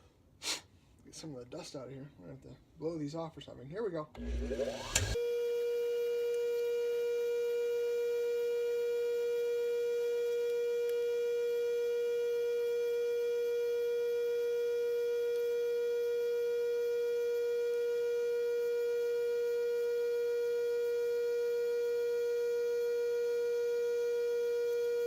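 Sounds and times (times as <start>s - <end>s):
bench grinder whine: 4.2s - 25.0s.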